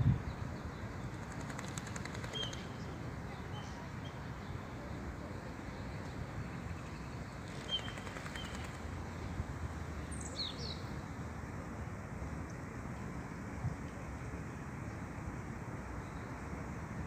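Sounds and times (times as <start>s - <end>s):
low outdoor background noise: 0.0s - 17.0s.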